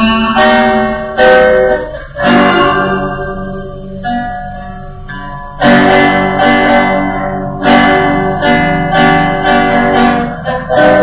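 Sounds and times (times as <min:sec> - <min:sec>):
guitar strummed chords: 0:00.0 - 0:11.0.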